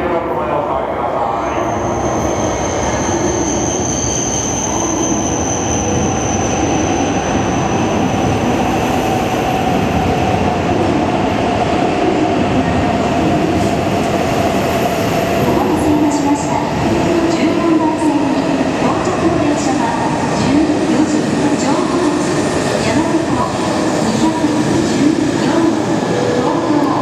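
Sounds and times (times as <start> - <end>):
high train whine: 0.0 - 27.0.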